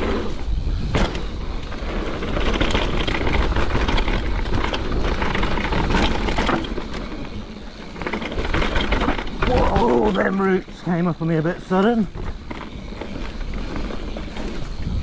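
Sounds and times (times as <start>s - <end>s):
wind buffeting microphone: 0.0s - 10.7s, 12.0s - 15.0s
bike clicks and rattles: 0.0s - 15.0s
bike tyres rumbling over dirt: 0.0s - 15.0s.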